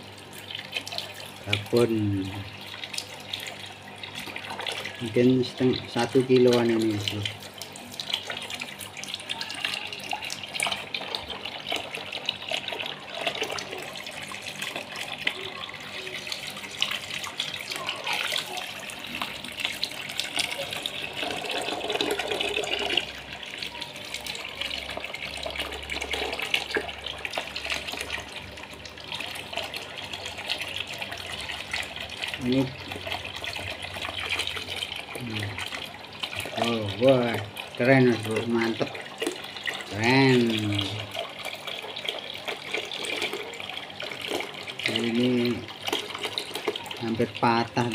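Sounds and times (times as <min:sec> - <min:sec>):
water pouring into a plastic basin: 0:00.0 - 0:47.9.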